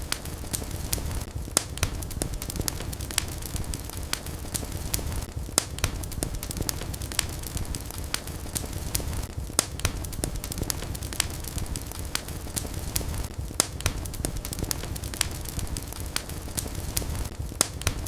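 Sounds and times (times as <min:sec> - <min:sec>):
fire crackling and popping: 0:00.0 - 0:18.0
flames rumbling and hissing: 0:00.0 - 0:18.0.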